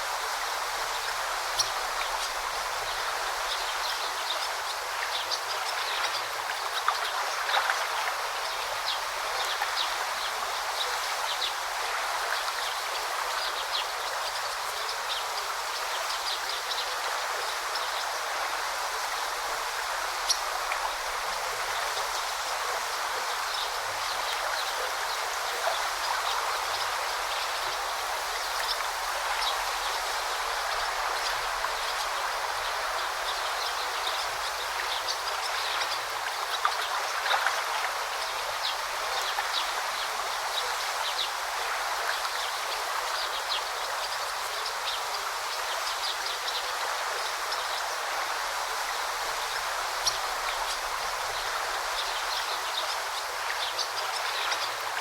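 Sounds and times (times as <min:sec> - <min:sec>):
river babbling: 0:00.0 - 0:55.0.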